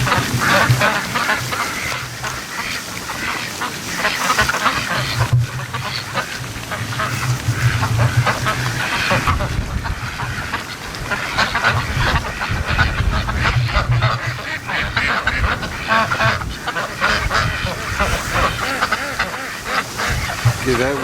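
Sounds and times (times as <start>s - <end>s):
ducks quacking: 0.0s - 21.0s
wind rumbling on microphone: 0.0s - 21.0s.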